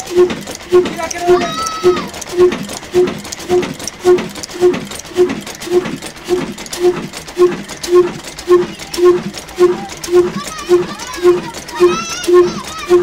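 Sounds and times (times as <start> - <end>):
diesel engine running slowly: 0.0 - 13.0.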